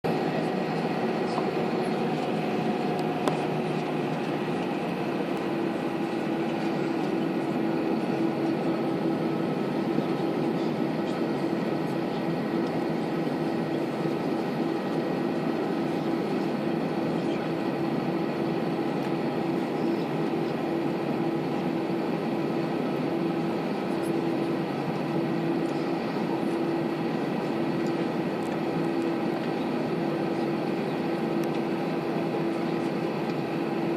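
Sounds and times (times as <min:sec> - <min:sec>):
aeroplane engines running: 0:00.0 - 0:33.9.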